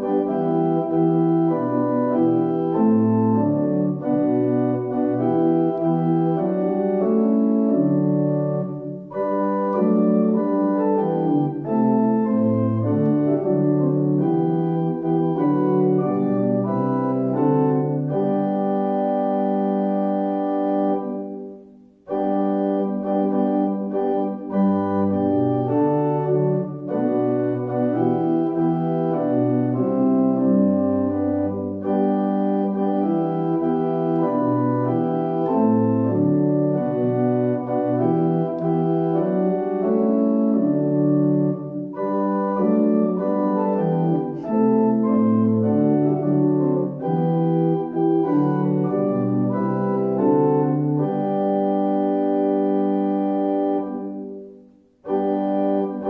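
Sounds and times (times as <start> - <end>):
church organ playing a hymn: 0.0 - 56.0.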